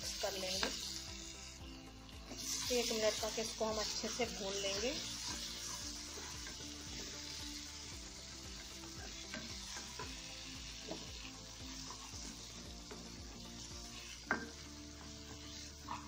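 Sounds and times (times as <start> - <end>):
paste sizzling in hot oil: 0.0 - 16.0
spatula stirring and scraping: 0.5 - 16.0.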